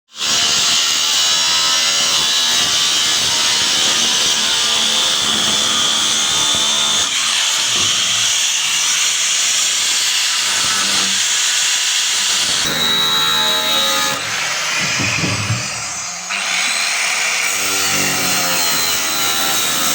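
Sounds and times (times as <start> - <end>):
angle grinder cutting steel: 0.2 - 19.9.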